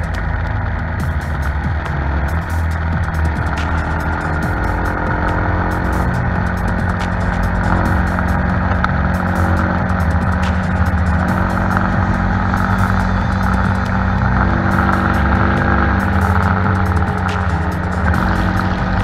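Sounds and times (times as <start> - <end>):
motorcycle engine cruising: 0.0 - 19.0
road and wind noise: 0.0 - 19.0.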